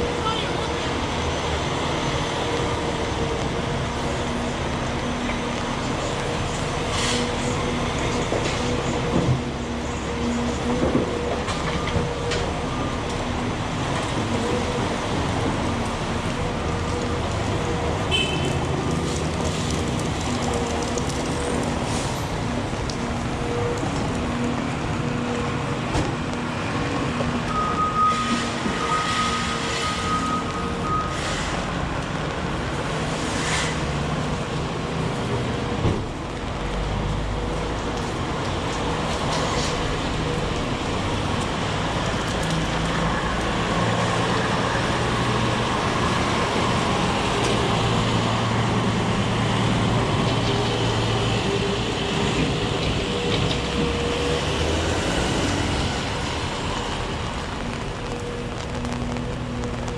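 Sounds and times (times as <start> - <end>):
heavy rain hissing on street: 0.0 - 59.9
traffic engines humming: 0.0 - 59.9.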